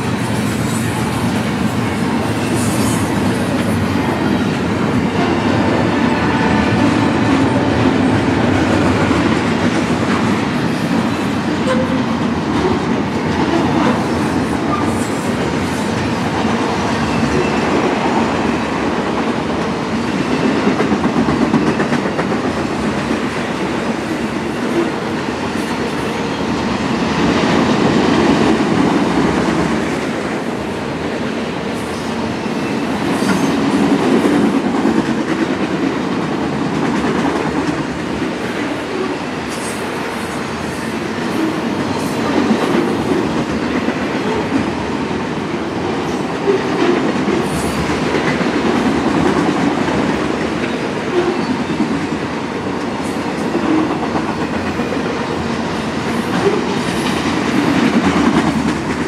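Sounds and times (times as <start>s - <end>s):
steel wheels running on rails: 0.0s - 59.0s.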